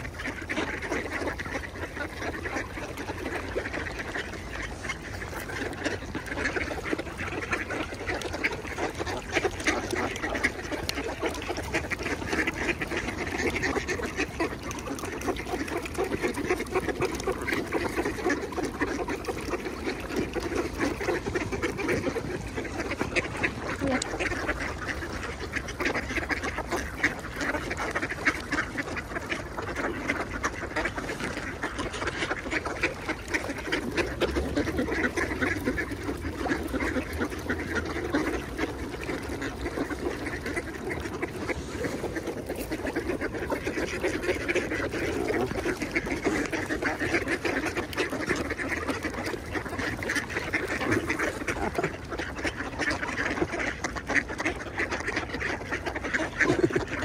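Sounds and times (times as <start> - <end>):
flock of ducks quacking: 0.0 - 57.0.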